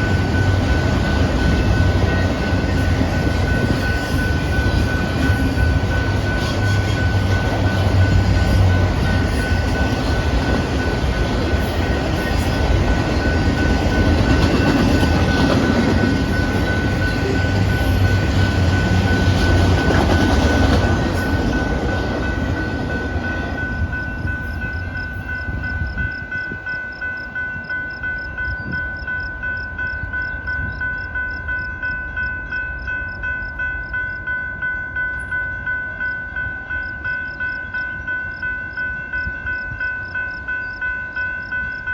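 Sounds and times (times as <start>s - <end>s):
crossing signal bell ringing: 0.0s - 41.9s
freight cars rolling on rails: 0.0s - 41.9s.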